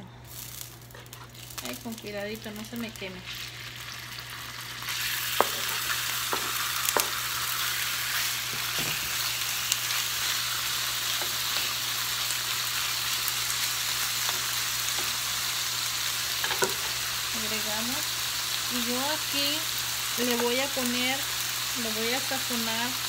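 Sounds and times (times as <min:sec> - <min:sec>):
chicken sizzling in hot oil: 0:00.4 - 0:23.0.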